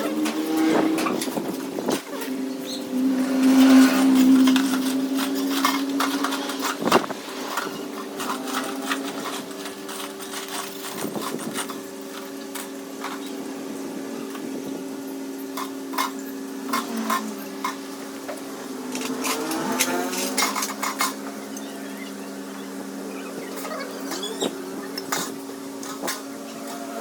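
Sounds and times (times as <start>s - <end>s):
metal tools clinking: 0.0s - 14.8s, 15.4s - 27.0s
steady machine hum: 0.0s - 27.0s.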